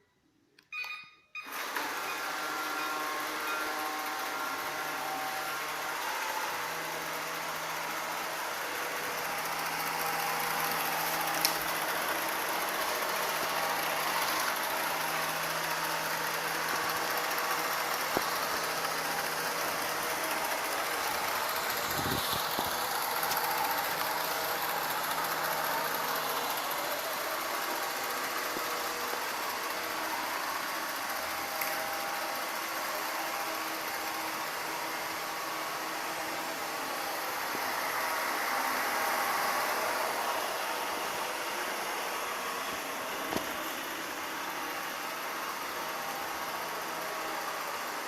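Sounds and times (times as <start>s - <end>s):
robot vacuum cleaner running: 1.4s - 48.0s.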